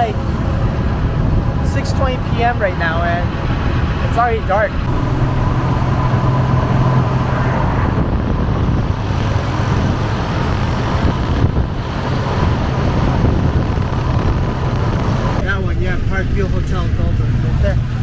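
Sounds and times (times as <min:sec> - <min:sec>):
road and wind noise: 0:00.0 - 0:18.0
vehicle engine hum: 0:00.0 - 0:18.0.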